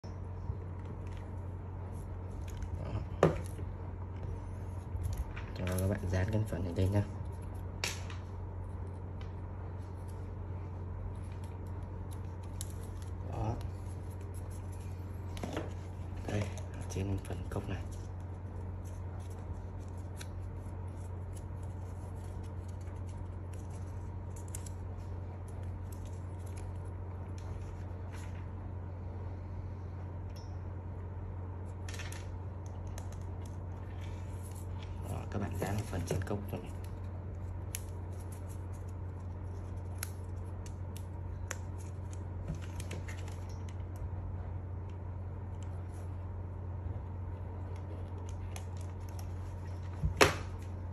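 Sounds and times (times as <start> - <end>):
steady low hum: 0.0 - 50.9
paper rustling and crackling: 0.7 - 28.6, 31.6 - 44.0, 47.6 - 50.9.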